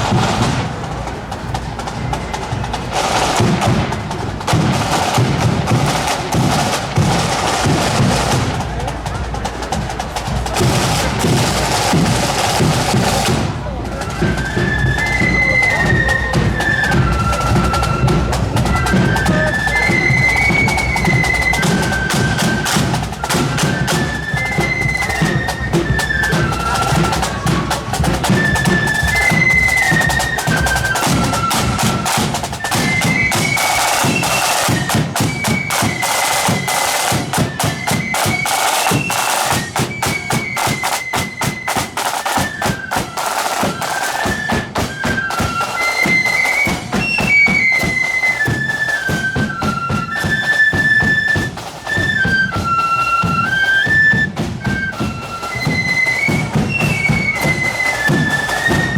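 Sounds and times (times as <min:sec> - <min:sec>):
high flute melody: 0:00.0 - 0:58.9
snare drums: 0:00.0 - 0:58.9.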